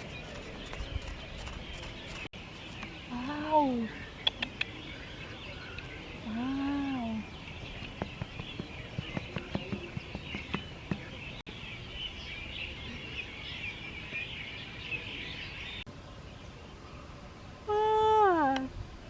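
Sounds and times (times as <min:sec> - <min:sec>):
birds chirping in chorus: 0:00.0 - 0:17.6.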